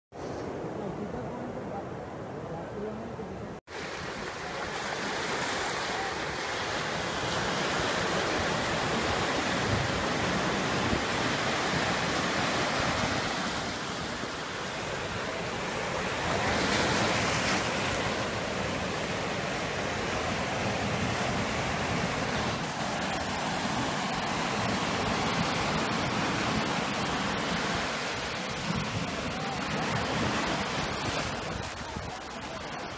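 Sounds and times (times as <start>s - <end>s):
sea surf breaking on beach: 3.7s - 32.9s.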